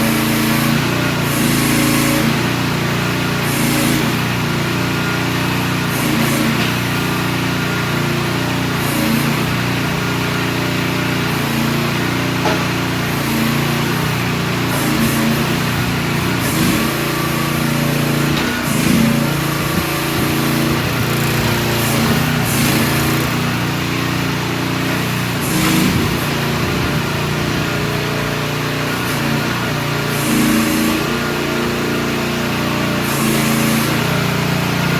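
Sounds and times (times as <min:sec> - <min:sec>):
small engine running: 0:00.0 - 0:34.9.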